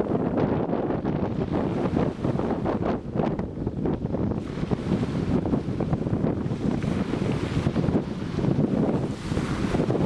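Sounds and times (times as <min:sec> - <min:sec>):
sea surf washing on shore: 0:00.0 - 0:10.0
wind buffeting microphone: 0:00.0 - 0:10.0.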